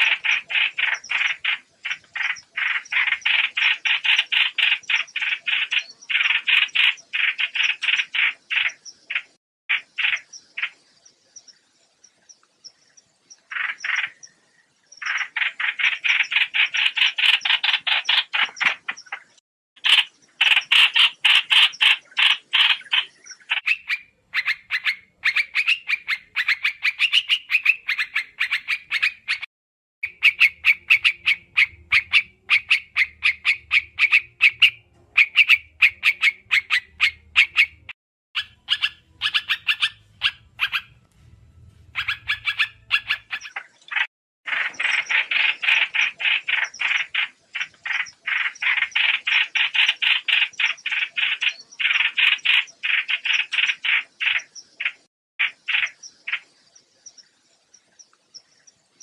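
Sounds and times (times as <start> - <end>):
recorded bird calls chattering: 0.0 - 59.0.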